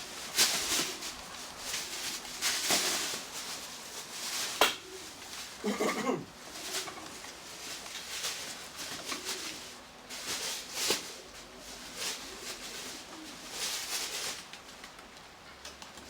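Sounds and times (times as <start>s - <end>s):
pigeons cooing: 0.0s - 14.4s
short hissy rustles: 0.0s - 14.7s.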